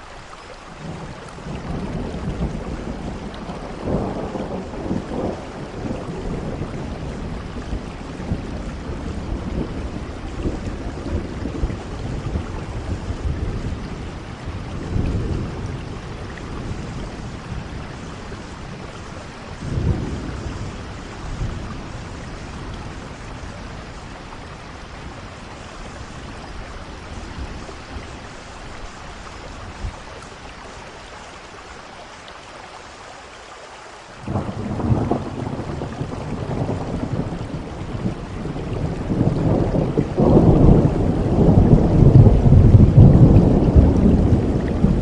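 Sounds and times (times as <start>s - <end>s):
steady rain falling: 0.0s - 45.0s
thunder rolling: 0.8s - 29.9s, 34.3s - 45.0s.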